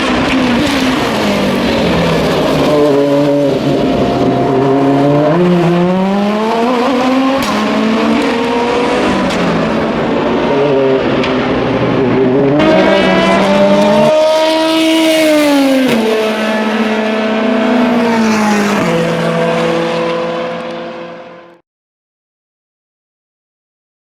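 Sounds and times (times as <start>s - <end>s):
race car engines passing: 0.0s - 21.6s.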